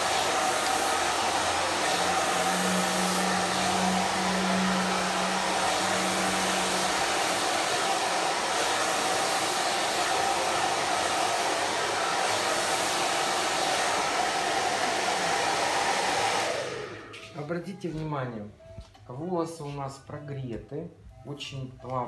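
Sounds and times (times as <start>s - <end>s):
hair dryer whirring: 0.0s - 17.8s.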